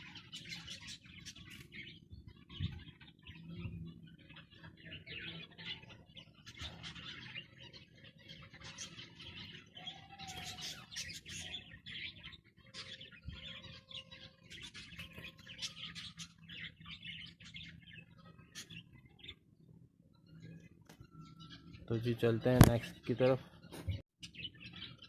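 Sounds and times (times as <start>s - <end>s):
finches chirping: 0.0s - 25.0s.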